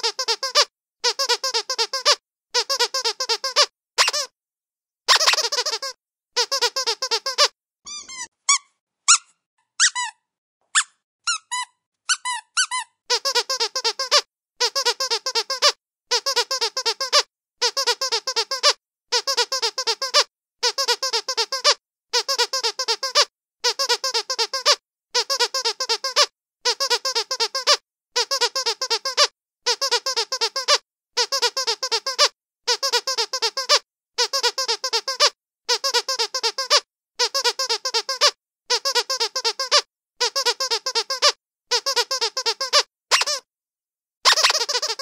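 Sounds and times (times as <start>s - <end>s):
squeaky dog toy squeaking: 0.0s - 4.3s, 5.1s - 43.5s, 44.2s - 45.0s.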